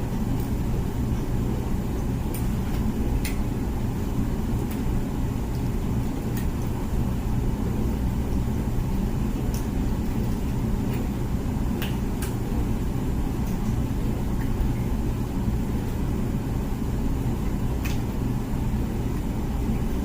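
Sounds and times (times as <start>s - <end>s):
dishwasher pump humming: 0.0s - 20.0s.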